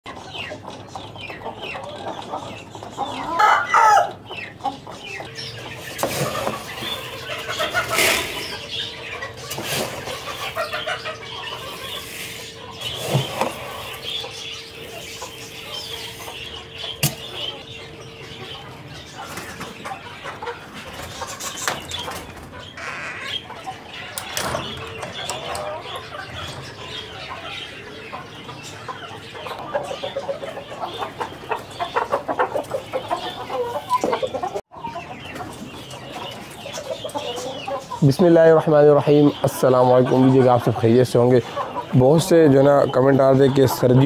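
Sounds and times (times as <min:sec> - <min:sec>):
roosters clucking: 0:00.1 - 0:44.0.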